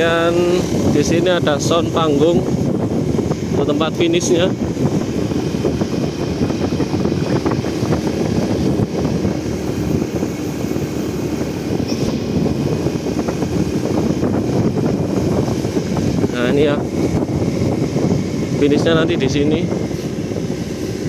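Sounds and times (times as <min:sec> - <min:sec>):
vehicle engine running: 0:00.0 - 0:21.0
wind noise on microphone: 0:00.0 - 0:21.0.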